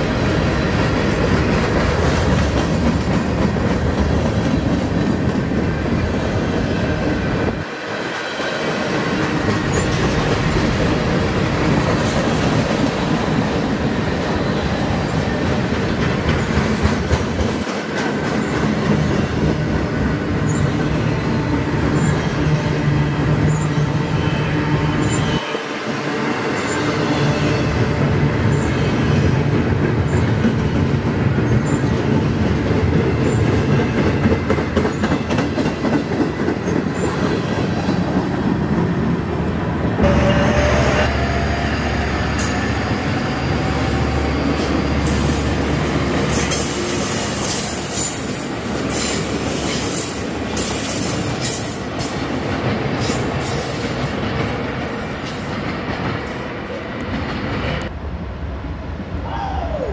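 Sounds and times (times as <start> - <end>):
freight train wheels clacking: 0.0 - 23.8, 26.4 - 57.9.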